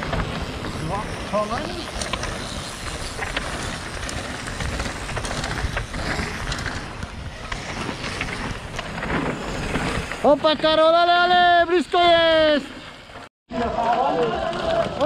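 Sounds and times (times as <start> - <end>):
steady rushing background: 0.0 - 13.2
bike tyres crunching on gravel: 0.0 - 15.0
bikes clattering: 0.0 - 15.0.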